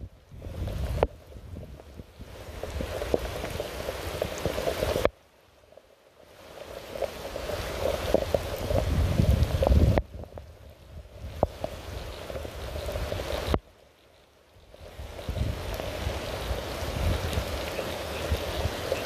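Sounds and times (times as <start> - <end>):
rain with drips: 0.0 - 19.0.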